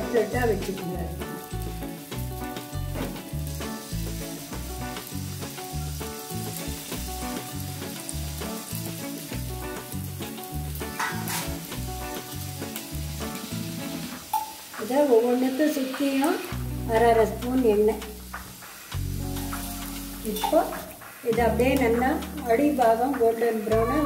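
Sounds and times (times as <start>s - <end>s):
cutlets sizzling in hot oil: 0.0s - 24.0s.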